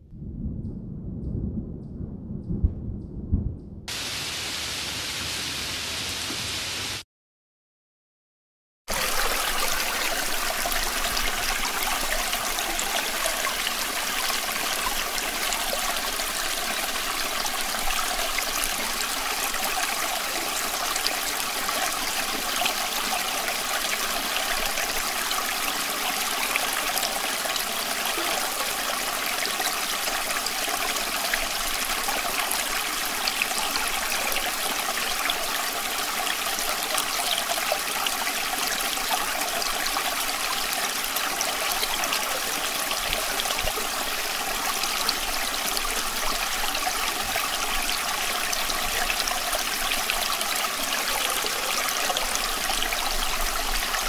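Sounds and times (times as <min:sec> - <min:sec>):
stream water flowing: 0:08.9 - 0:54.0.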